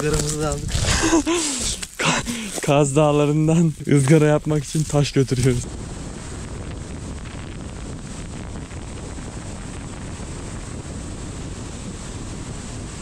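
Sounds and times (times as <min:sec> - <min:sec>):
steady rushing noise with rumble: 0:00.0 - 0:13.0.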